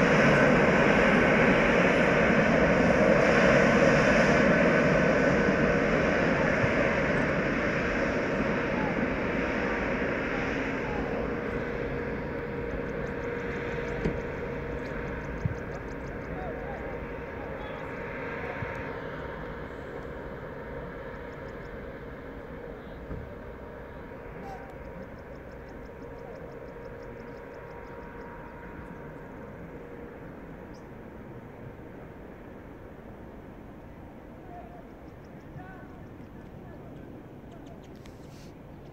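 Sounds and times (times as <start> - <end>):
jet engines rumbling at taxi: 0.0 - 38.9.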